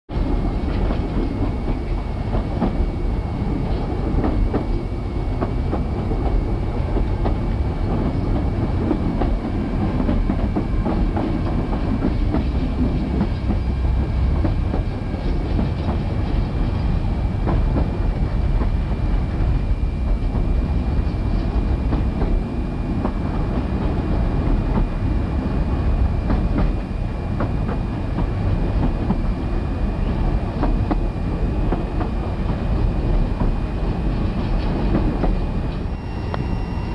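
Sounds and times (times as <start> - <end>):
train wheels rumbling on rails: 0.1 - 36.9
thin high whine: 0.2 - 28.7, 29.3 - 36.9.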